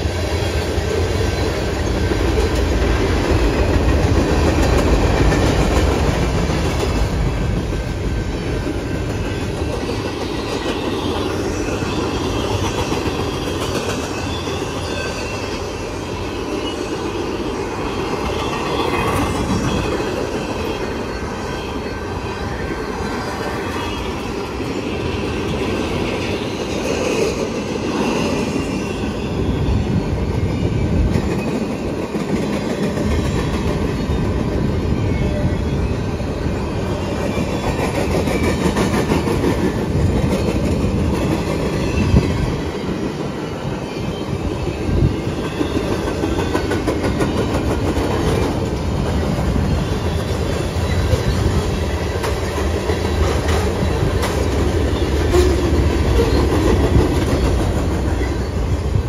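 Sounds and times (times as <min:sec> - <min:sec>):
clickety-clack over rail joints: 0:00.0 - 0:15.8, 0:18.0 - 0:21.2, 0:30.0 - 0:59.0
freight train wheels on rails: 0:00.0 - 0:59.0.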